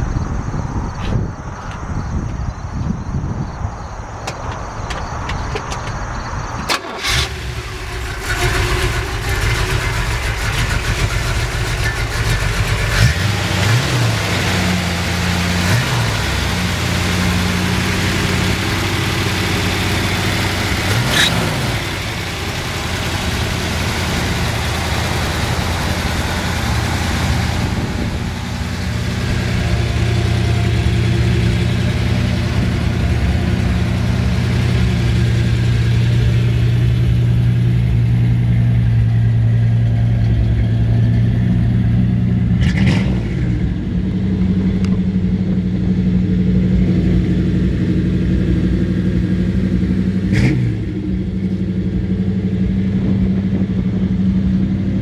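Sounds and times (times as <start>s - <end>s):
car engine starting and idling: 4.0s - 55.0s
engine throttle blips: 4.2s - 55.0s.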